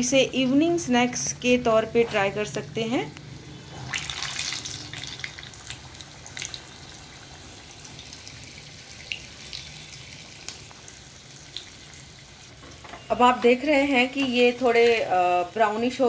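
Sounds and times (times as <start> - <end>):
fritters deep-frying in hot oil: 0.0 - 16.0.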